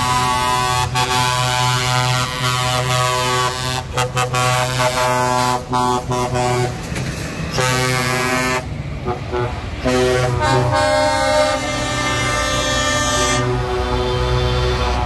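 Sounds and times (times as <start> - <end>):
truck air horn blasts: 0.0 - 6.8, 7.5 - 15.0
trucks driving past: 0.0 - 15.0.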